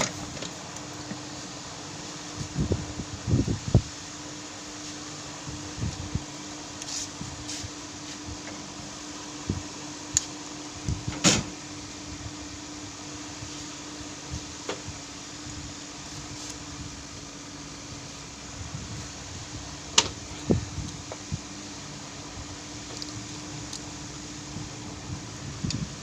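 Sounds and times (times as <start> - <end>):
electric fan hum: 0.0 - 26.0.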